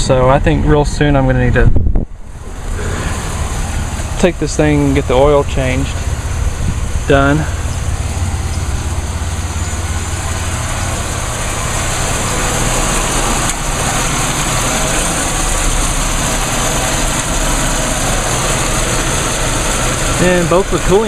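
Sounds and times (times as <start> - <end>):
car engine idling: 0.0 - 21.0
radiator cooling fans rushing: 0.0 - 21.0.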